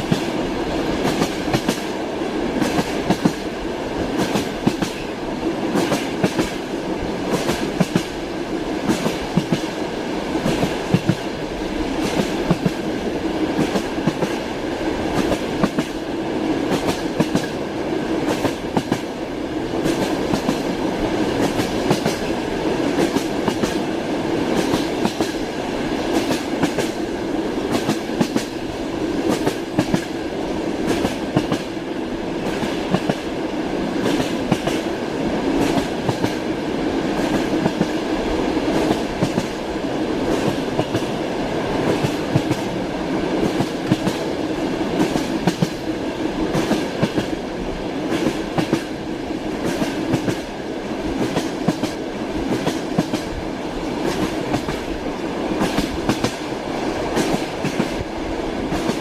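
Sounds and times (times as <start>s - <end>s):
railway carriage rumbling: 0.0s - 59.0s.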